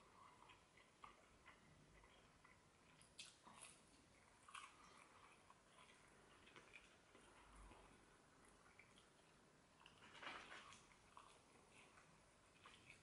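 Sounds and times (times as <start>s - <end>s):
chewing mouth sounds: 0.0s - 13.0s.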